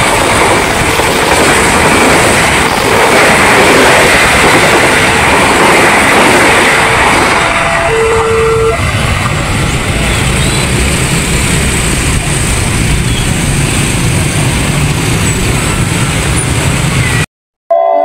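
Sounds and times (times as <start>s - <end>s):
train passing rumble: 0.0s - 17.2s.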